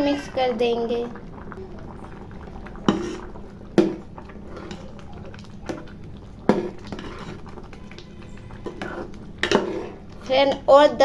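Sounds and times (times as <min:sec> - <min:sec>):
faint bubbling simmer: 0:00.0 - 0:11.0
metal spoon stirring in pot: 0:01.4 - 0:11.0.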